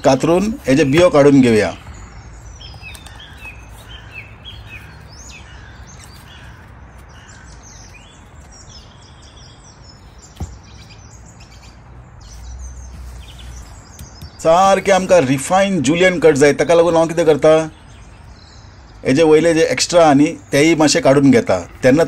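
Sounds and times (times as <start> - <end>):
birds chirping and singing: 0.0 - 22.0.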